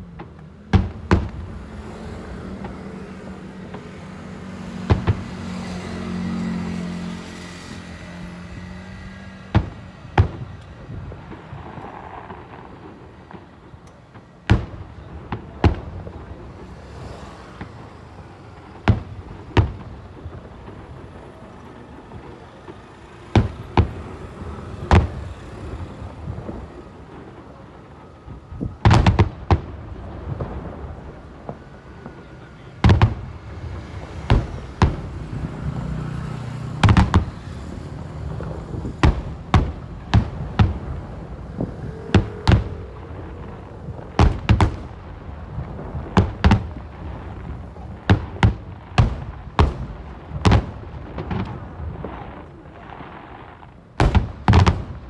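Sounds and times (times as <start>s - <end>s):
fireworks booming: 0.0s - 55.0s.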